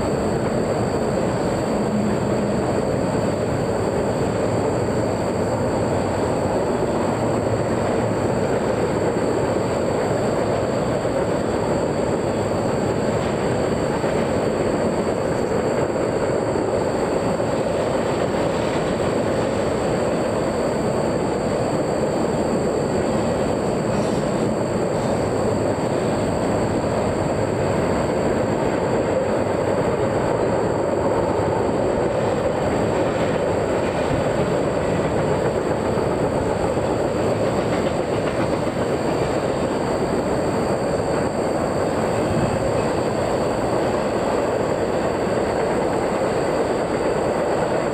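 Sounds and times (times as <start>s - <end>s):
faint high whine: 0.0s - 47.9s
train wheels rumbling on rails: 0.0s - 47.9s.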